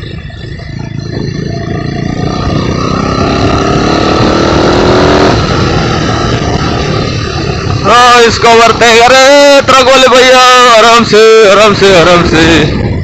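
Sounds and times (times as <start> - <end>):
motorcycle engine running: 0.0 - 13.0
steady vehicle tone: 0.0 - 13.0
wind and road noise: 0.0 - 13.0.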